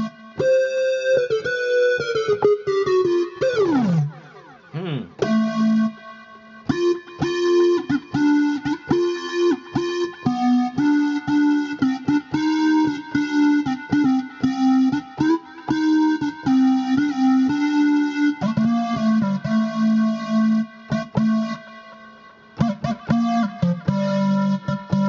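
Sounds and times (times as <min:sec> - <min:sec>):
synthesizer lead melody: 0:00.0 - 0:25.0.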